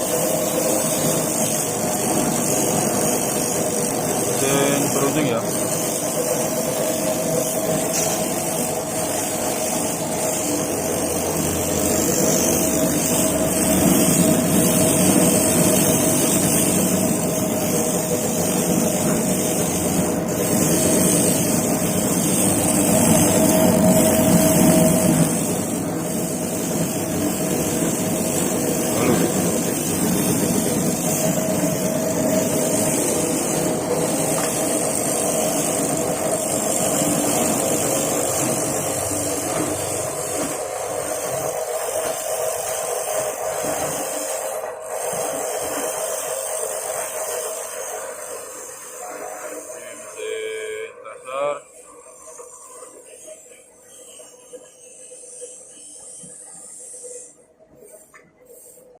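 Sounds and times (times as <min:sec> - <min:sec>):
sharpening machine motor hum: 0:00.0 - 0:57.4.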